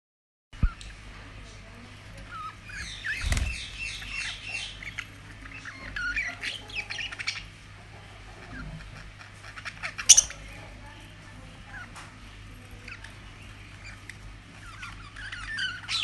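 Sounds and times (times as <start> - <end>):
budgerigars chirping and warbling: 2.1 - 10.8, 11.4 - 16.0.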